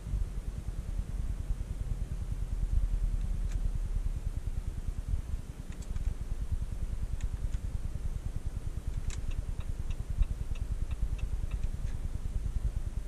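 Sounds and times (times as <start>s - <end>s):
light evenly spaced ticks: 0.0s - 13.0s.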